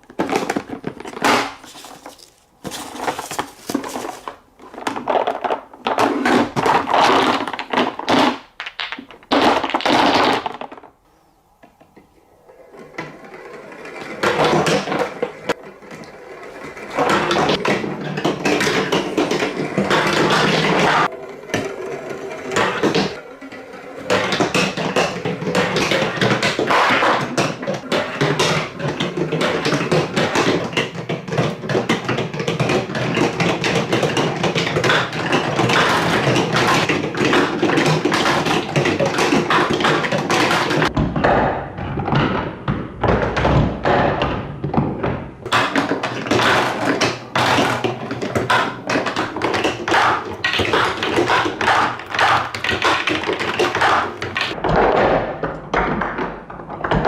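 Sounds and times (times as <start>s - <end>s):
marbles clattering down plastic stairs: 0.0s - 11.0s, 12.8s - 57.0s.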